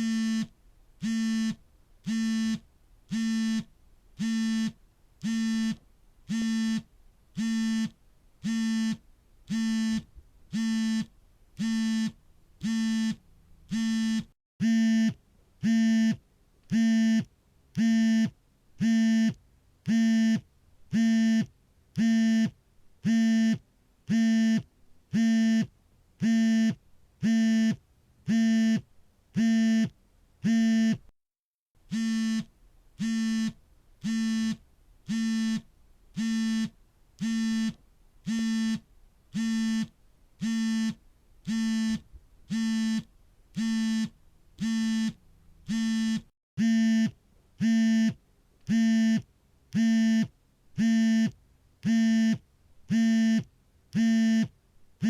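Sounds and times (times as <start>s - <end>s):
phone vibration buzzing: 0.0s - 22.5s, 29.4s - 31.1s, 31.9s - 54.5s.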